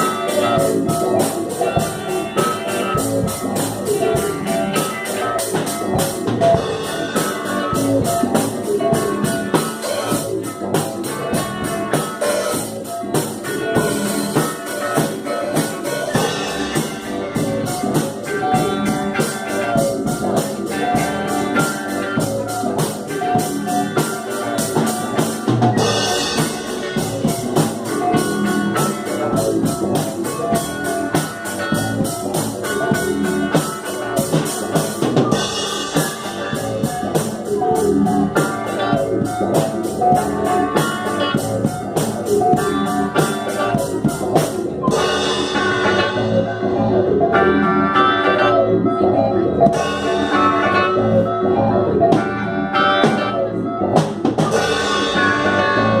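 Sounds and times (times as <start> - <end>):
fast dense cymbal pattern: 0.0 - 48.4, 49.7 - 51.4, 54.0 - 56.0
psychedelic rock jam: 0.0 - 56.0.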